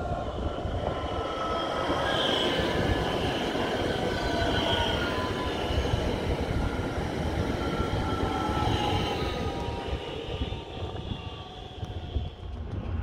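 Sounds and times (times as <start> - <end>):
faint whining tones: 0.0 - 13.0
train wheels rumbling on rail: 0.0 - 13.0.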